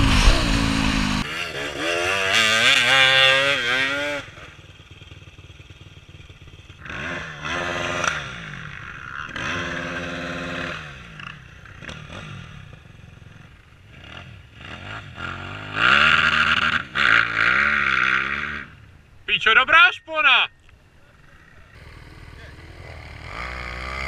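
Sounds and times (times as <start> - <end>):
motorcycle engine idling and revving: 0.0 - 19.2, 20.7 - 24.0.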